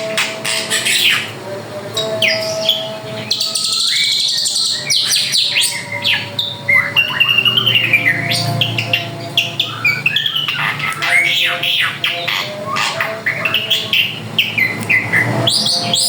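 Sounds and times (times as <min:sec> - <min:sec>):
harsh buzzy bird trill: 0:00.0 - 0:16.0
bird whistled song: 0:02.2 - 0:16.0.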